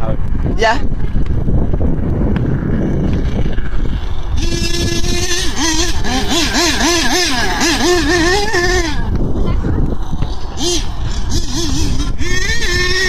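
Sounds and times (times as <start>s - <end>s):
low rumble: 0.0s - 13.0s
small engine buzzing: 1.0s - 13.0s.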